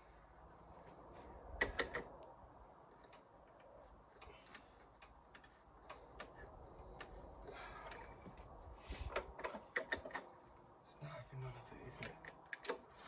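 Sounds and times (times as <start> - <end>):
faint clicks and light knocks: 0.7 - 10.7, 11.8 - 13.0.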